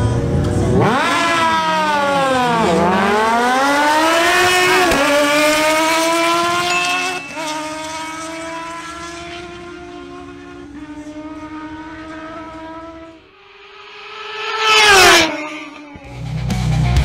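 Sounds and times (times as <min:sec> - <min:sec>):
sport bikes racing at full throttle: 0:00.0 - 0:17.0.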